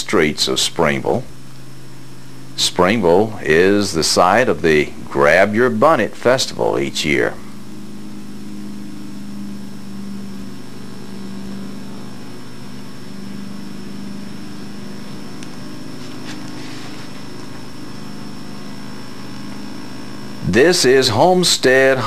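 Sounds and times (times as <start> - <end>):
electrical mains hum: 0.0 - 22.0
faint high whine: 0.0 - 22.0
tape hiss: 0.0 - 22.0.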